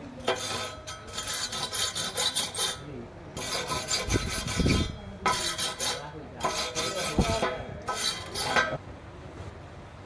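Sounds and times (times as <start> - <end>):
hand tool rasping on steel pipe: 0.2 - 8.8.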